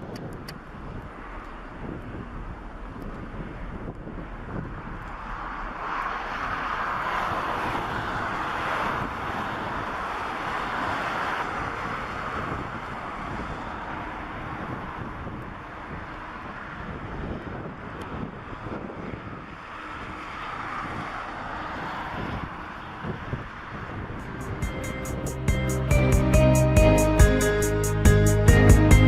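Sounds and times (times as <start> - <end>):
jet airliner engines at takeoff: 0.0 - 25.6.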